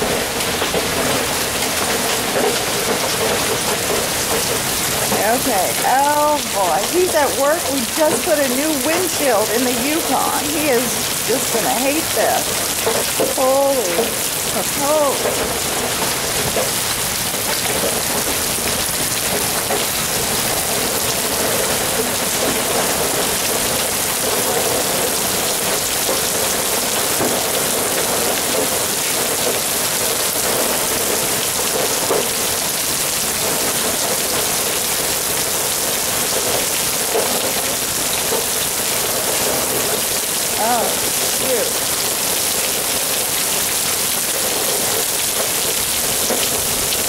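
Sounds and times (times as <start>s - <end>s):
hail clattering on roof: 0.0s - 9.1s, 9.7s - 47.0s
heavy rain hissing: 0.0s - 47.0s.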